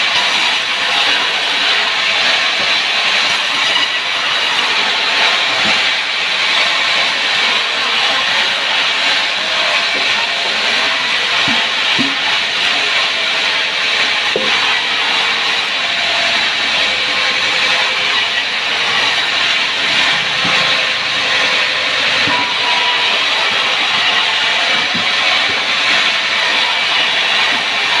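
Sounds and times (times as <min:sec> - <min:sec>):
power saw cutting wood: 0:00.0 - 0:28.0.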